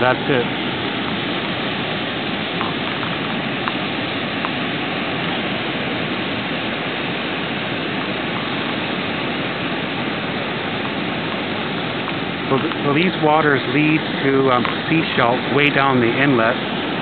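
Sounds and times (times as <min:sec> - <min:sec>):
tidal rapids rushing: 0:00.0 - 0:17.0.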